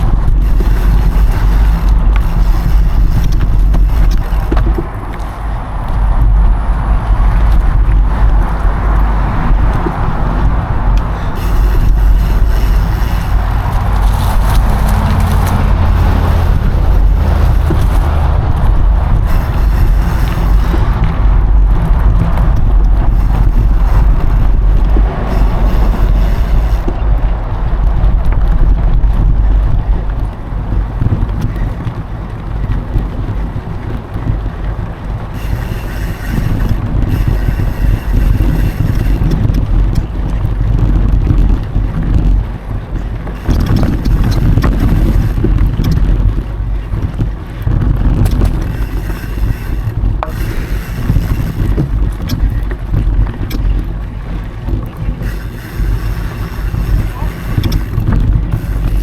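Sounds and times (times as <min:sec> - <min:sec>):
bike tyres rumbling on dirt: 0:00.0 - 0:59.0
wind buffeting microphone: 0:00.0 - 0:59.0.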